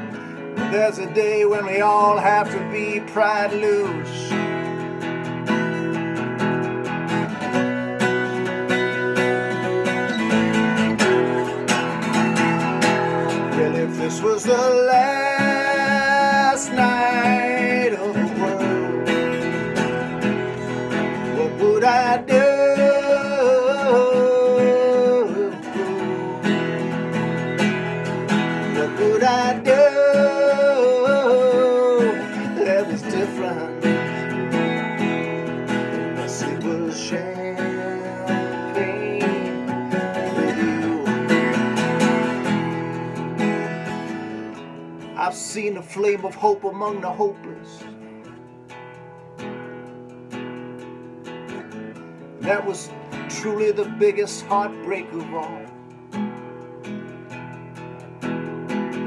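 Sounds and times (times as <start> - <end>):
man singing: 0.0 - 4.8, 8.4 - 48.5, 52.4 - 56.0
acoustic guitar strumming: 0.0 - 59.0.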